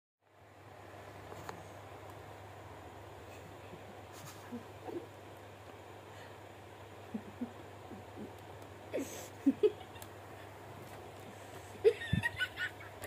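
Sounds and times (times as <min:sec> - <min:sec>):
faint steady hum: 0:00.2 - 0:13.0.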